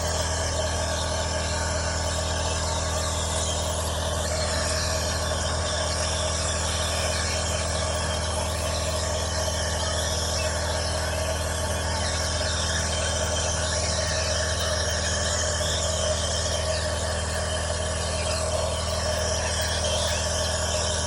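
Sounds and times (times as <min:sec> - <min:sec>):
small motor humming: 0:00.0 - 0:21.0.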